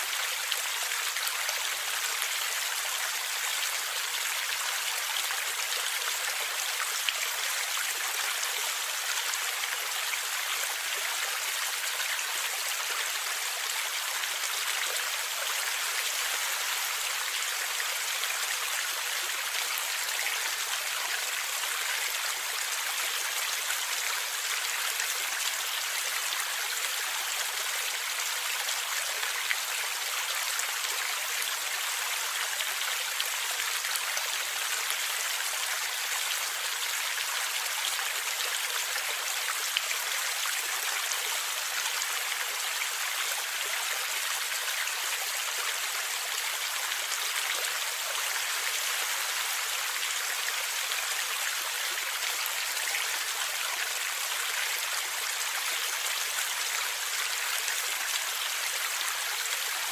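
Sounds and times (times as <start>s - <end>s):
stream flowing and gurgling: 0.0s - 59.9s.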